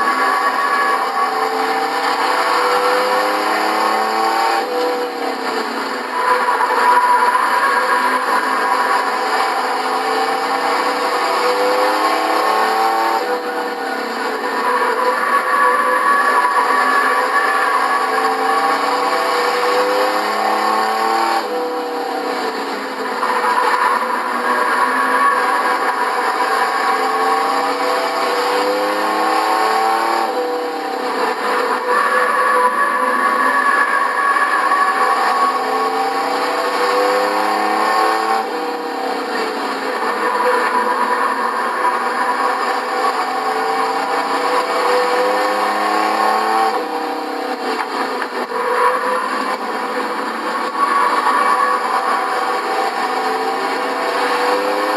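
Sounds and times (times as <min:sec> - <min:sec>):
racing truck engines: 0:00.0 - 0:54.9.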